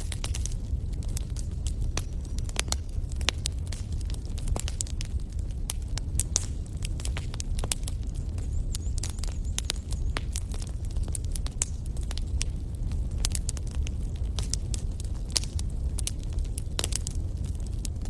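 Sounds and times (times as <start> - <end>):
campfire crackling: 0.0 - 18.0
low rumble of flames: 0.0 - 18.0.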